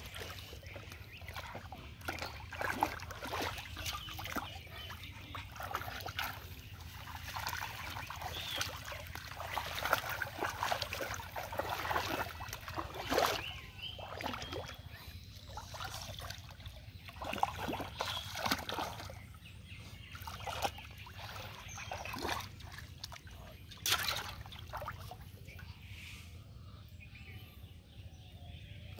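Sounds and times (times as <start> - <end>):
muddy water splashing: 0.0 - 25.8.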